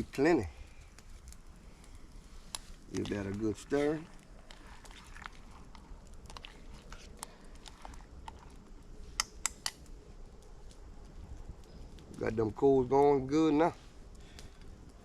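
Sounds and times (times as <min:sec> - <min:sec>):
campfire crackling: 0:00.0 - 0:15.0
fire pops and snaps: 0:00.0 - 0:15.0.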